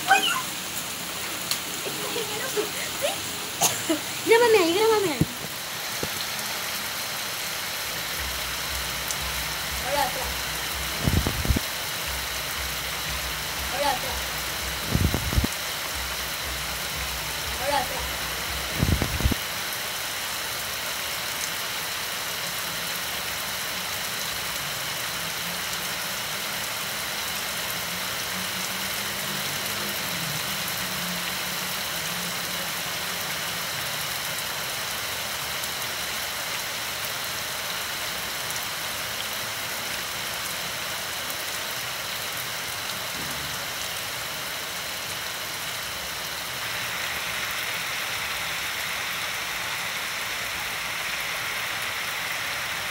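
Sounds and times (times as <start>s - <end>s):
heavy rain on hard surfaces: 0.0s - 52.9s.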